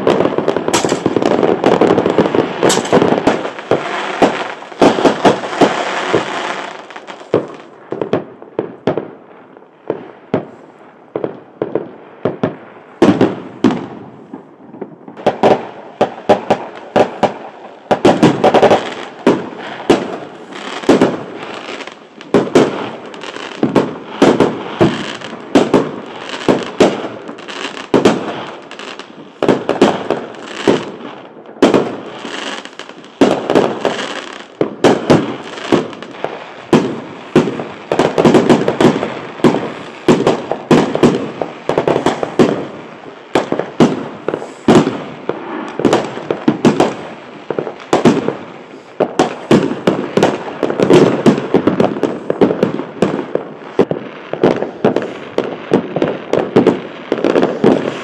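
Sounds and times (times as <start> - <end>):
fireworks exploding overhead: 0.0 - 58.0.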